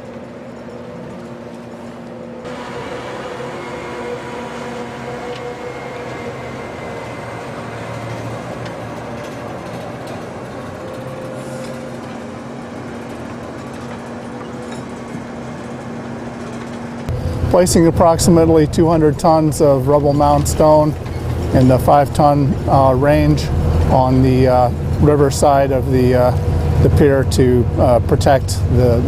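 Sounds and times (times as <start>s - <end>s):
heavy engine droning: 0.0s - 29.0s.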